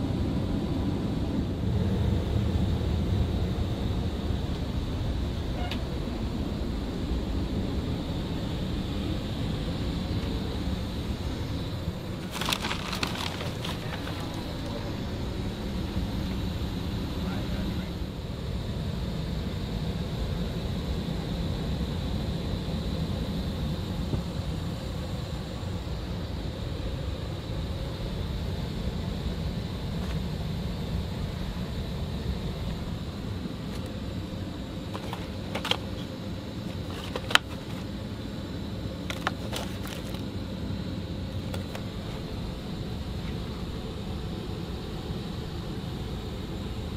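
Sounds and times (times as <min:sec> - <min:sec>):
faint steady whine: 0:00.0 - 0:46.9
jet engine low rumble: 0:00.0 - 0:46.9.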